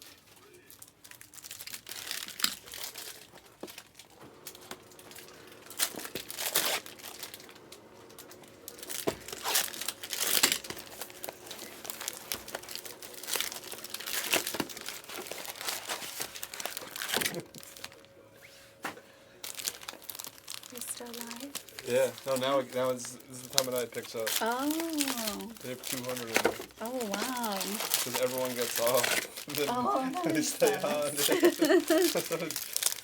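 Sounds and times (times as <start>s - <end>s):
foil wrappers tearing and crinkling: 0.0s - 18.1s, 19.4s - 33.0s.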